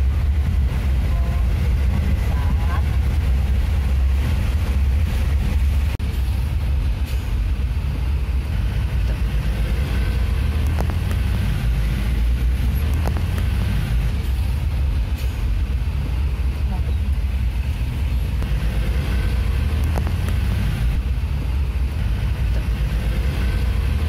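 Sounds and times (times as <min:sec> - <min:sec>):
road noise: 0:00.0 - 0:24.0
vehicle engine rumble: 0:00.0 - 0:24.0.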